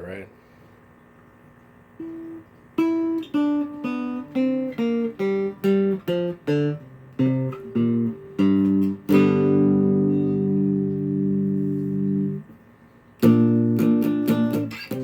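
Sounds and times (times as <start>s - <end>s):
guitar chord strummed: 2.0s - 12.6s, 13.2s - 15.0s
guitar notes picked: 2.0s - 12.6s, 13.2s - 15.0s.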